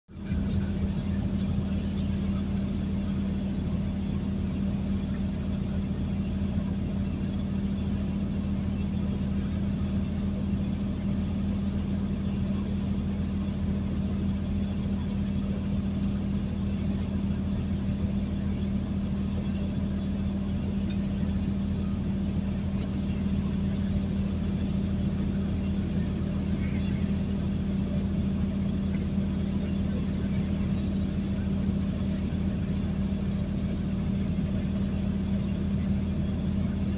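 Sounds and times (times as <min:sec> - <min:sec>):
truck diesel engine droning: 0:00.0 - 0:36.9.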